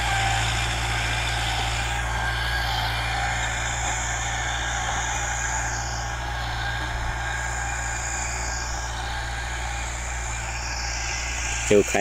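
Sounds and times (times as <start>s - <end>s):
distant tractor engine running: 0.0s - 12.0s.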